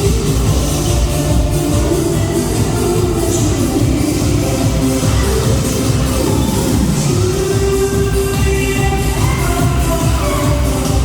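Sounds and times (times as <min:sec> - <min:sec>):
pop dance music: 0:00.0 - 0:11.0.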